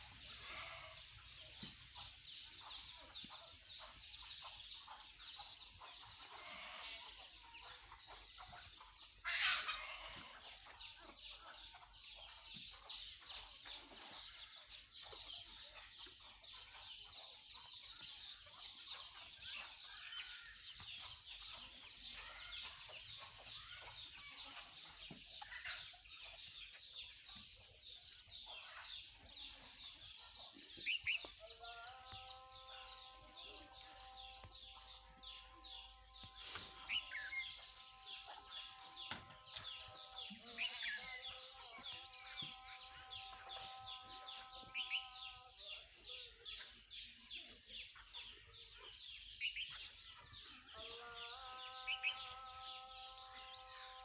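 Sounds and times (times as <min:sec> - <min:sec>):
chickens clucking: 0:00.0 - 0:54.0
small birds chirping: 0:00.0 - 0:54.0.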